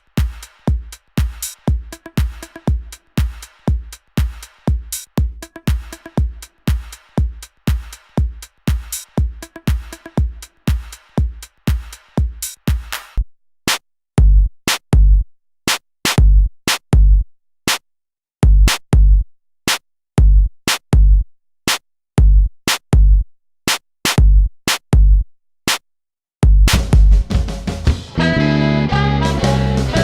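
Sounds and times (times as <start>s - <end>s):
electronic drum-machine beat: 0.0s - 17.8s, 18.4s - 25.8s, 26.4s - 28.3s.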